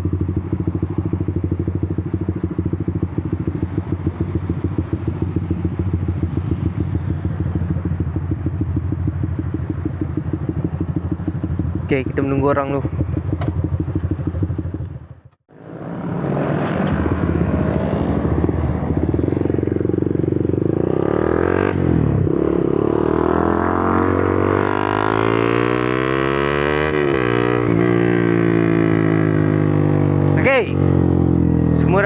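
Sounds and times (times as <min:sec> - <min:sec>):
motorcycle engines running: 0:00.0 - 0:32.0.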